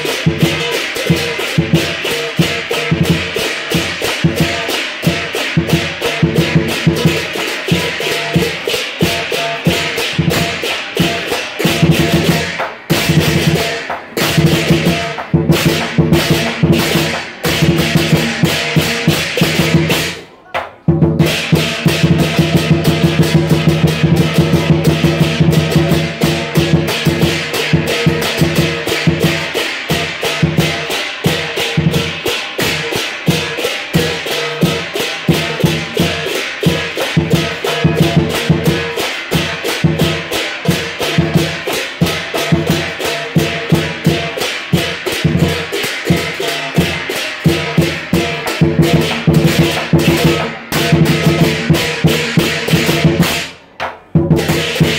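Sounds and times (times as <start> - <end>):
cymbals clashing: 0.0 - 54.9
drum beaten fast: 0.0 - 54.9.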